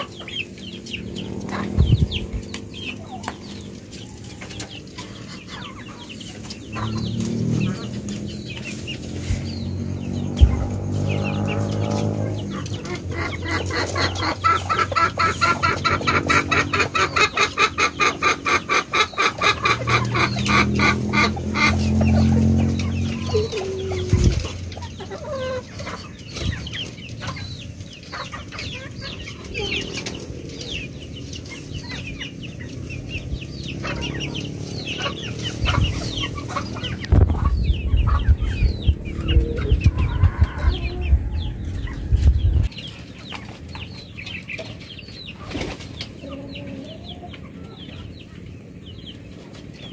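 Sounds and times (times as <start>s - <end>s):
chickens clucking: 0.0s - 49.9s.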